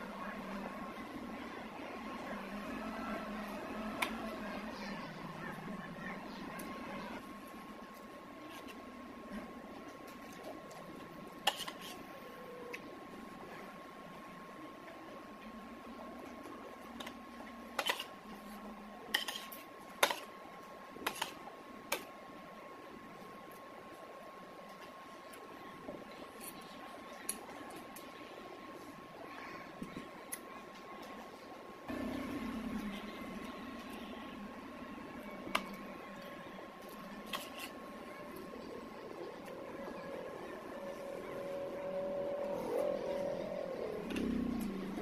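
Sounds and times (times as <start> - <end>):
background hum with high whine: 0.0 - 45.0.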